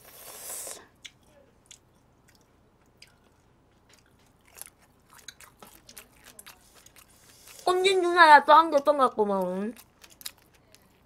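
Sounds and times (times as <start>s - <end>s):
chewing shrimp: 0.1s - 7.9s, 8.8s - 11.0s
soft crunches and wet clicks: 1.0s - 7.6s, 8.7s - 11.0s.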